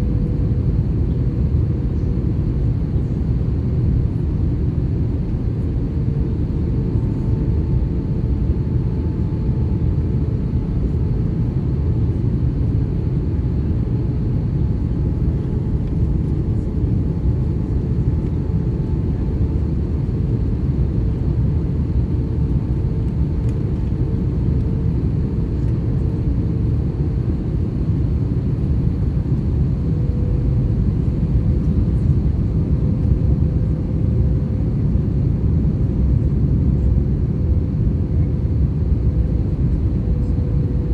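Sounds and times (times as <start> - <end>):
airplane cabin rumble: 0.0 - 40.9
faint hum: 0.0 - 40.9.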